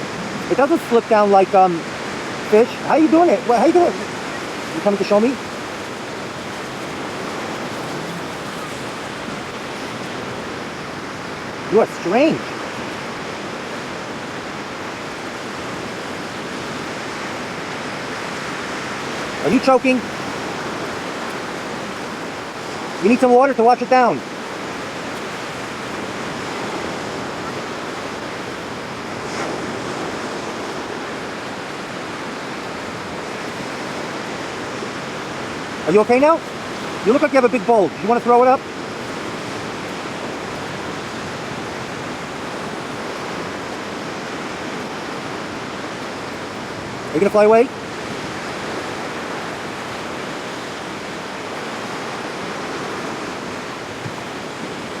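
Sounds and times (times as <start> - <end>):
ocean surf: 0.0 - 55.0
wind blowing: 0.0 - 55.0.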